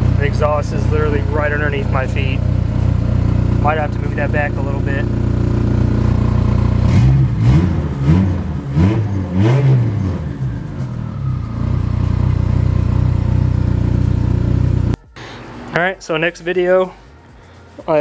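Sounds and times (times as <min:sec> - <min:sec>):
car engine idling and revving: 0:00.0 - 0:15.2
loud exhaust: 0:00.0 - 0:15.7.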